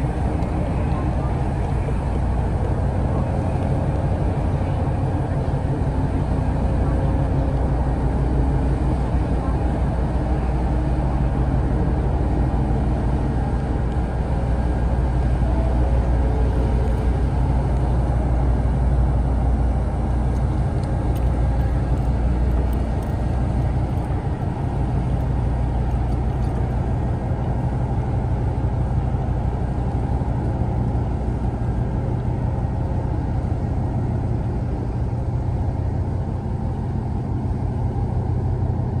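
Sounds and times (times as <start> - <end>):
water churning: 0.0 - 35.6
ship engine rumble: 0.0 - 39.0.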